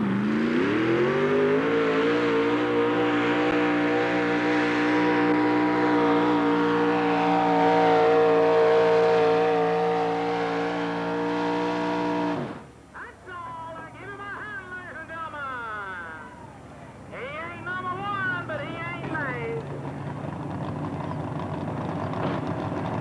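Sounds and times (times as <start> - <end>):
truck engine under full load: 0.0 - 12.9, 15.5 - 23.0.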